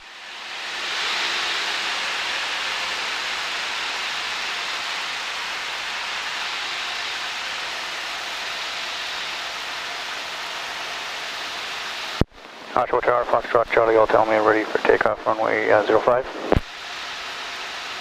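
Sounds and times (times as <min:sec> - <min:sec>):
airplane cabin noise in flight: 0:00.0 - 0:18.0.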